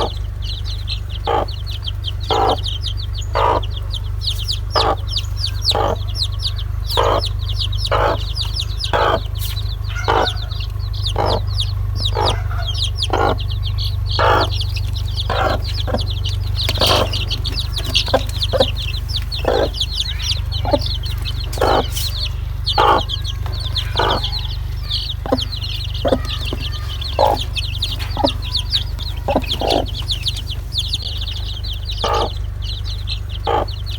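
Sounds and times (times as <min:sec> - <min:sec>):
chicks peeping: 0:00.0 - 0:33.9
steady low hum: 0:00.0 - 0:33.9.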